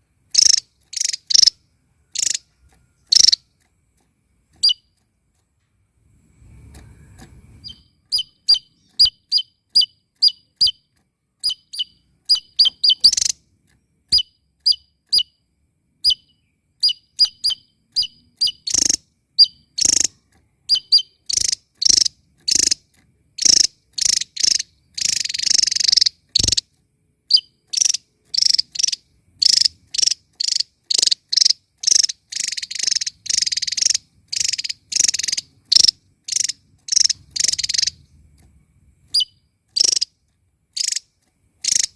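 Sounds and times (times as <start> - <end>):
buzzy bird trill: 0.0 - 3.7, 4.4 - 5.1, 6.4 - 38.2, 39.0 - 41.9
songbird chirping: 0.0 - 41.9.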